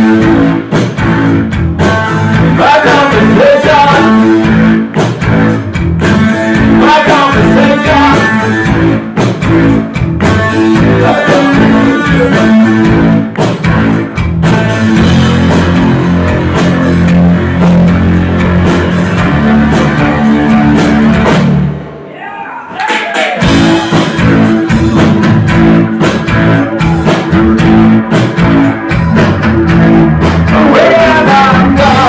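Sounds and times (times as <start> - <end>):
bass guitar line: 0.0 - 22.1, 23.2 - 32.0
live rock band playing: 0.0 - 22.1, 23.1 - 32.0.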